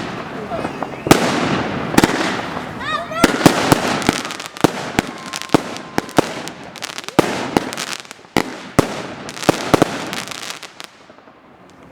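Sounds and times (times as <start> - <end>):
fireworks banging and crackling: 0.0 - 11.9.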